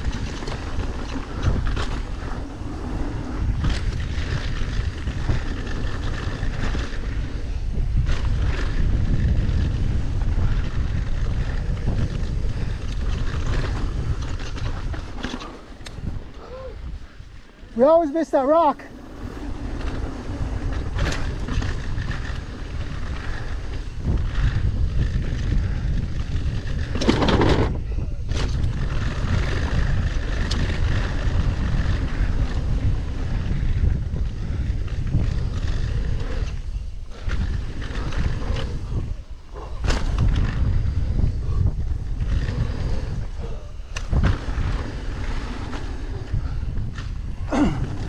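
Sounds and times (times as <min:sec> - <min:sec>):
bike rattling: 0:00.0 - 0:48.0
tyres on loose dirt: 0:00.0 - 0:48.0
wind rushing over microphone: 0:00.0 - 0:48.0.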